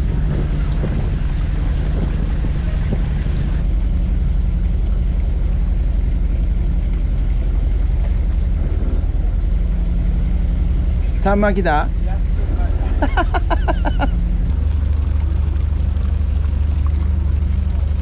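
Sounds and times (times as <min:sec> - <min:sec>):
boat engine droning: 0:00.0 - 0:18.0
hiss of wind and water: 0:00.0 - 0:18.0.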